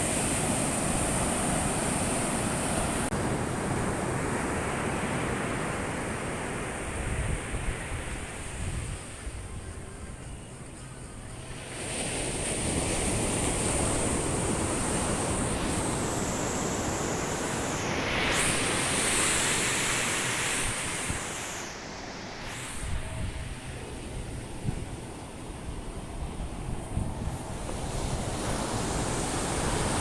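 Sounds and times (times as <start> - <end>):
sea waves breaking on beach: 0.0 - 9.2, 11.4 - 30.0.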